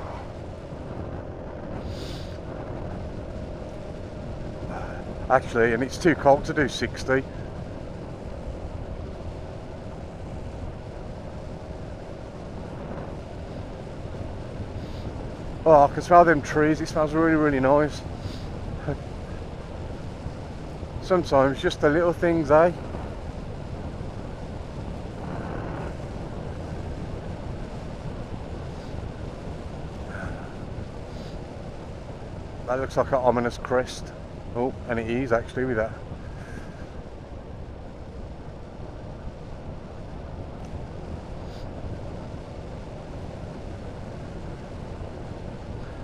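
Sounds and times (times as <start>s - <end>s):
road noise: 0.0s - 46.0s
wind noise: 0.0s - 46.0s.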